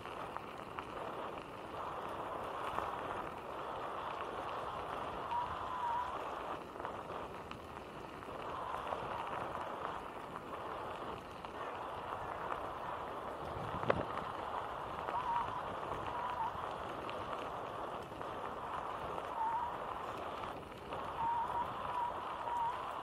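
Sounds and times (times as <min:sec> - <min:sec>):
bicycle tyres crunching gravel: 0:00.0 - 0:23.0.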